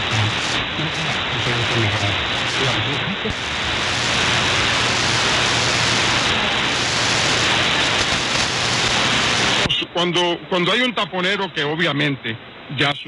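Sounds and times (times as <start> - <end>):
shortwave radio static: 0.0 - 13.0.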